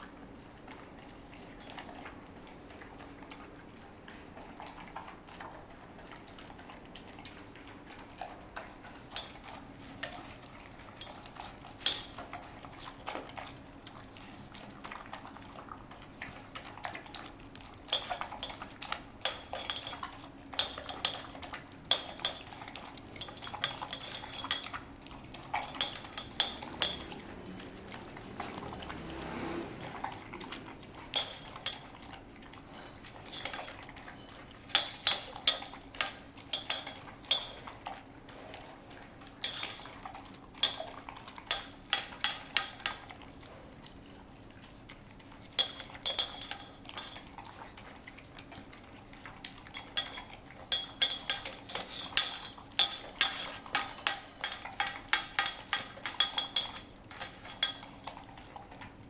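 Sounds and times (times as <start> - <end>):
metallic clinking and jangling: 0.0 - 59.0.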